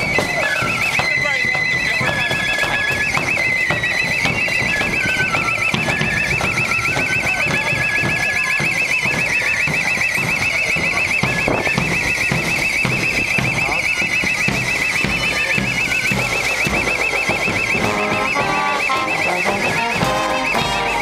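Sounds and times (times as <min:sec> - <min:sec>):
street crowd noise: 0:00.0 - 0:21.0
warbling electronic alarm: 0:00.0 - 0:21.0.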